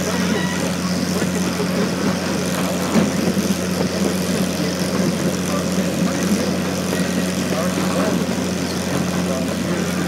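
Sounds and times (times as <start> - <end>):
small train engine droning: 0.0 - 10.0.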